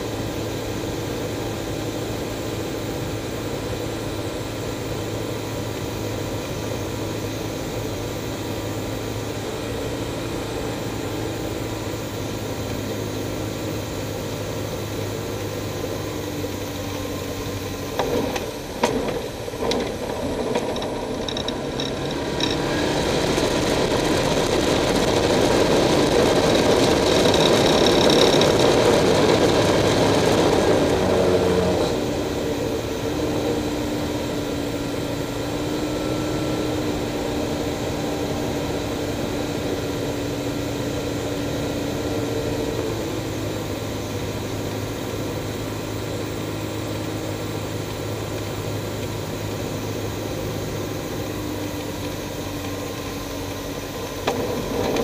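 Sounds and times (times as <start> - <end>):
light aircraft piston engine: 0.0 - 55.0.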